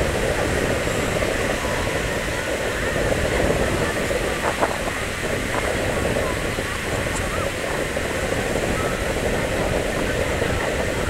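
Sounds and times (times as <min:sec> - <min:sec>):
murmur of crowd: 0:00.0 - 0:11.0
steady rushing background noise: 0:00.0 - 0:11.0.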